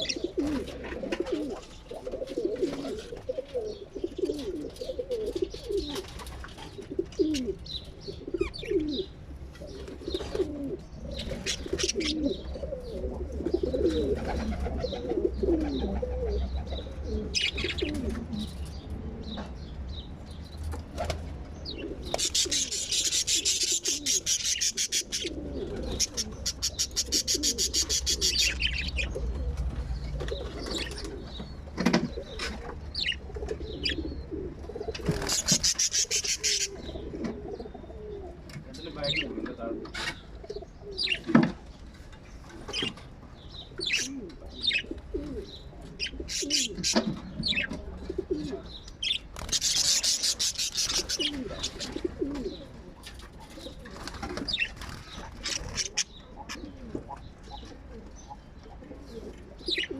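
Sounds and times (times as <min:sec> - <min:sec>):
birds cooing: 0:00.0 - 0:59.9.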